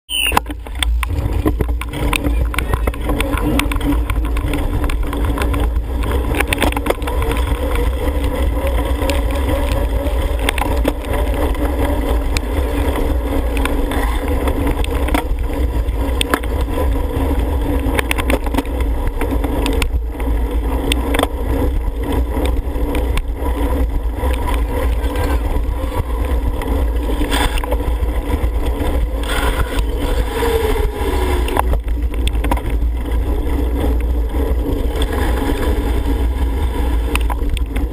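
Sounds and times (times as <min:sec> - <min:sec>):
bicycles whirring on wet pavement: 0:00.1 - 0:37.9
clicks and rattles: 0:00.3 - 0:35.7, 0:37.0 - 0:37.9
wind buffeting microphone: 0:00.4 - 0:37.9.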